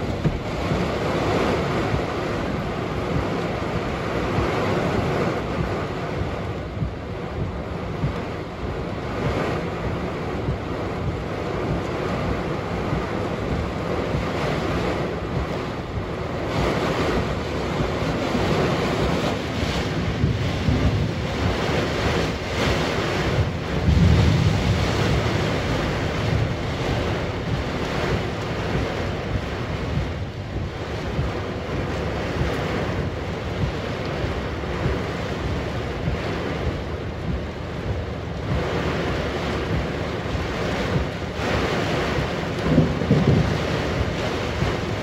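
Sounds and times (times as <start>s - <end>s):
heavy rain: 0.0s - 45.0s
wind buffeting microphone: 0.0s - 45.0s.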